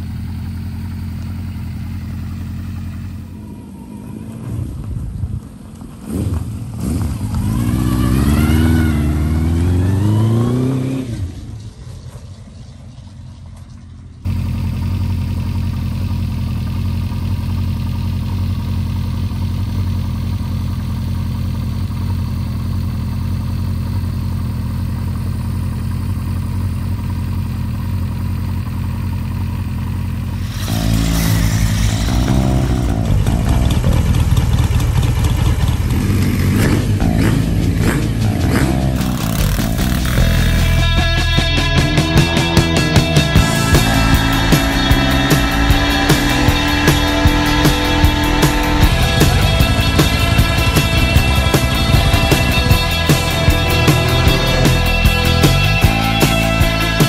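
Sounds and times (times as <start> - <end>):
motorcycle engine accelerating: 0.0 - 57.0
motorcycle engine idling: 0.0 - 57.0
single-cylinder motorcycle engine: 0.0 - 57.0.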